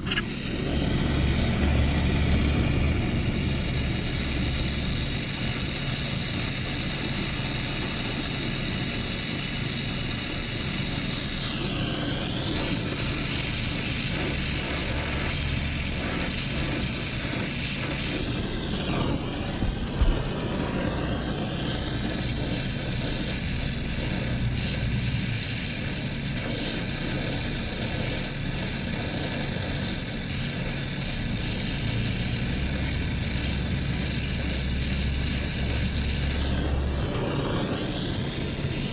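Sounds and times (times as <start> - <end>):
machinery humming: 0.0 - 25.4, 31.2 - 38.9
brazing torch hissing: 0.0 - 38.9.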